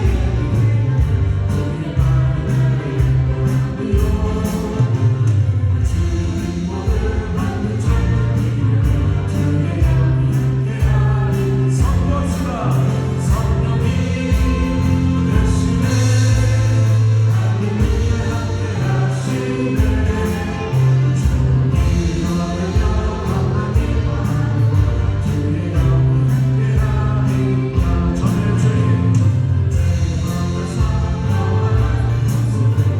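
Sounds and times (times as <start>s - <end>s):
acoustic guitar: 0.0s - 32.9s
group singing: 0.0s - 32.9s
keyboards: 0.0s - 32.9s
steady drum beat: 0.0s - 32.9s.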